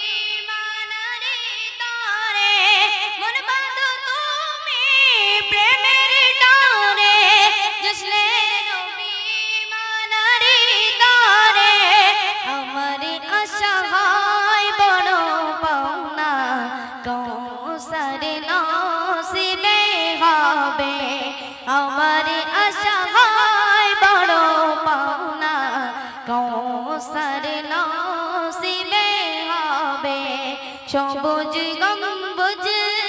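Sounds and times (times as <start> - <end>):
boy singing into a microphone: 0.0 - 33.0.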